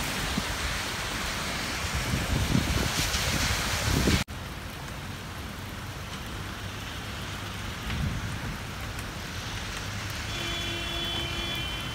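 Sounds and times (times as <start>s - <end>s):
rain on wet pavement: 0.0s - 11.9s.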